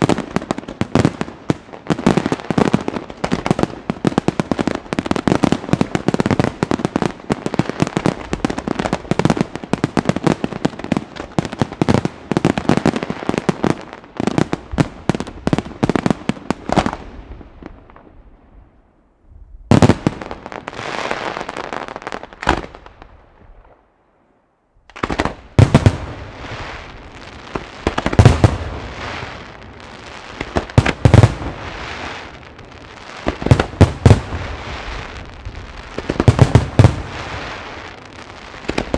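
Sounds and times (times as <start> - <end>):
fireworks bangs and crackling: 0.0 - 18.5, 19.6 - 23.8, 24.9 - 38.9.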